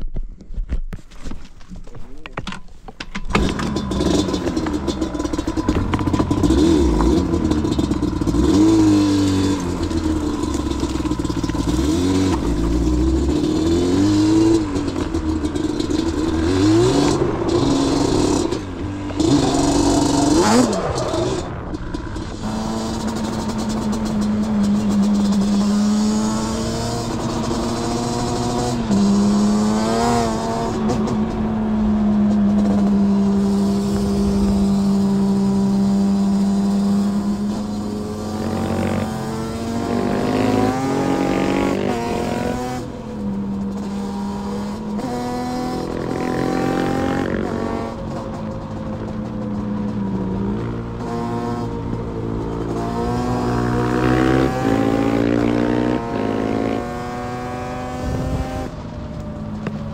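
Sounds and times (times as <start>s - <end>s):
dirt bike engines revving: 3.3s - 59.9s.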